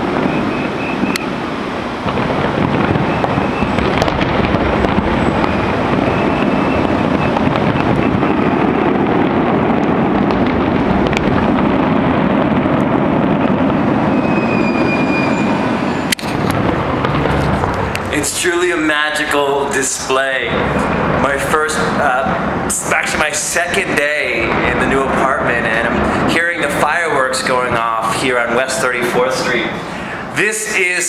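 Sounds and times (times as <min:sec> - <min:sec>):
distant fireworks barrage: 0:00.0 - 0:31.0.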